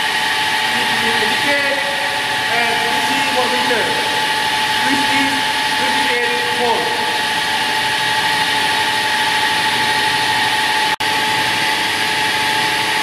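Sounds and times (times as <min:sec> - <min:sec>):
electric motor high whine: 0:00.0 - 0:13.0.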